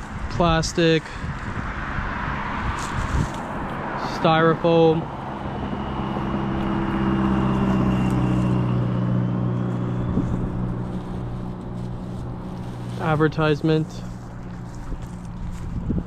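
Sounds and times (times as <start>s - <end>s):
vehicle engine passing by: 1.0s - 16.0s.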